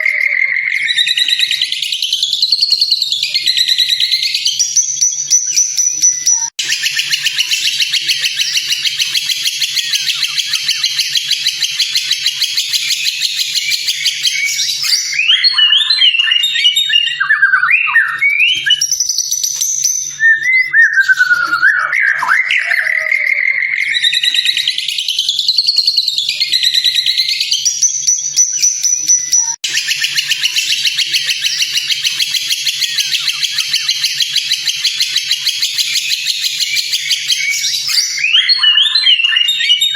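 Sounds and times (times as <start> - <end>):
bird whistled phrases: 0.0 - 39.9.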